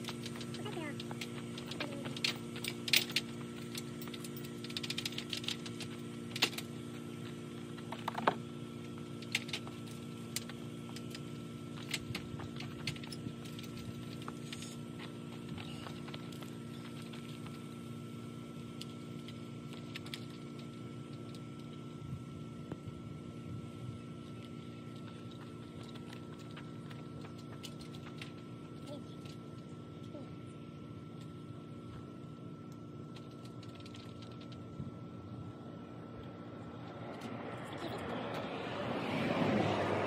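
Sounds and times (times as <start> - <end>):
steady hum with high tone: 0.0 - 40.0.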